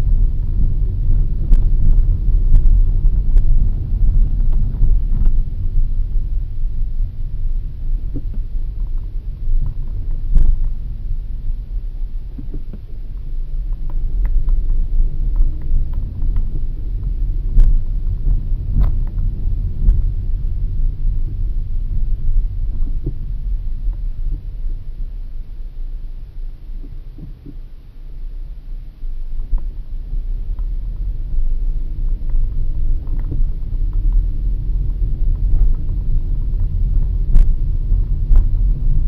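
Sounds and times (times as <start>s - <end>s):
car rumble inside cabin: 0.0s - 39.0s.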